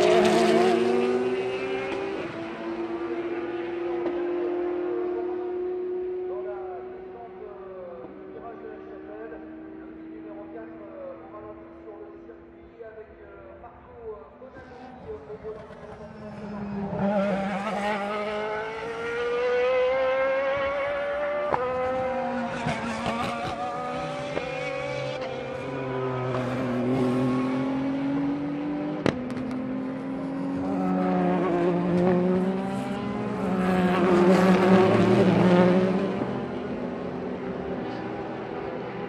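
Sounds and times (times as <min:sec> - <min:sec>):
race cars accelerating past: 0:00.0 - 0:12.2, 0:14.7 - 0:39.0.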